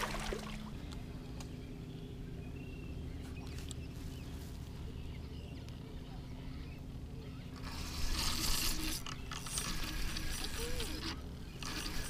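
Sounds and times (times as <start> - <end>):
steady low hum: 0.0 - 12.0
faint bird chirps: 0.8 - 12.0.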